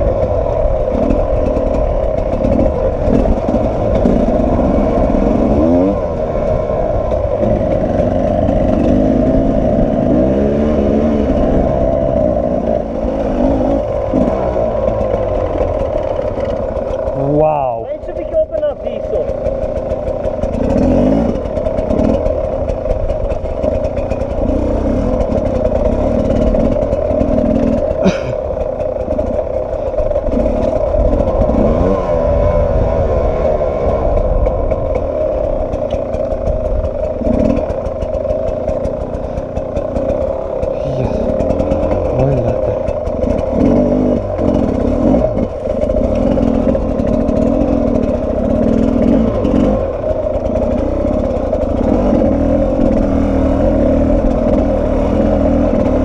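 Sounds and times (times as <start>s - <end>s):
two-stroke motorcycle engine running: 0.0s - 56.0s.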